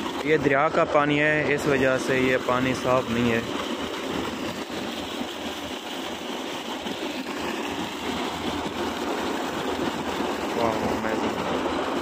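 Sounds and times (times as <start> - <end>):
water gushing from a pipe: 0.0 - 12.0
water splashing into a channel: 0.0 - 12.0.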